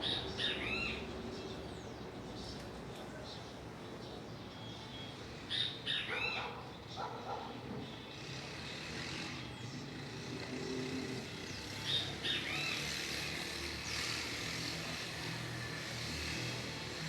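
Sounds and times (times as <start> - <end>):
vehicle traffic rumble: 0.0 - 5.6, 6.4 - 17.0.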